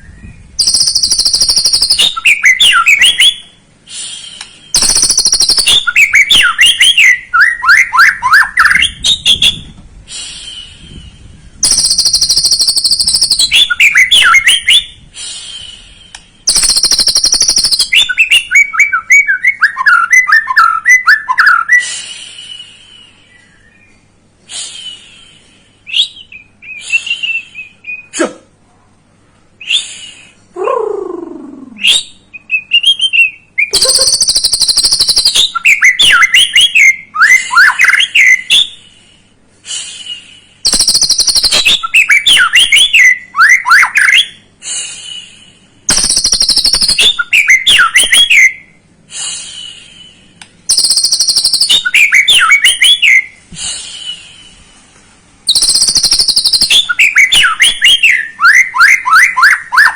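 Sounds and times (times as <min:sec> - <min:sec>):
songbird chattering and whistling: 0:00.0 - 0:28.2, 0:29.6 - 0:39.1, 0:39.8 - 0:54.6, 0:55.5 - 0:59.9.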